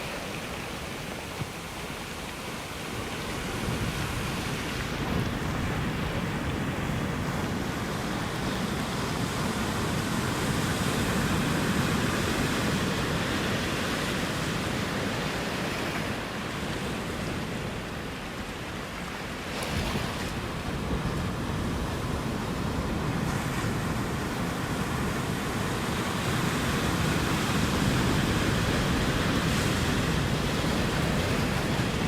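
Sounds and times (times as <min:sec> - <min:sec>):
waves breaking: 0:00.0 - 0:32.0.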